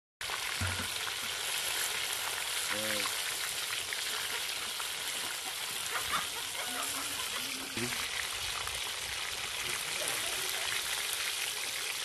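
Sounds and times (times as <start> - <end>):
chicken deep-frying in oil: 0.2 - 12.0.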